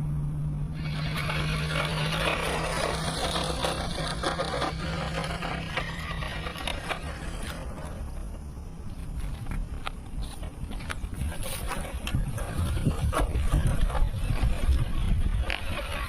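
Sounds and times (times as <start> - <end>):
toy car motor hum: 0.7 - 9.6, 10.2 - 16.0
tyres scraping over dirt: 0.7 - 16.0.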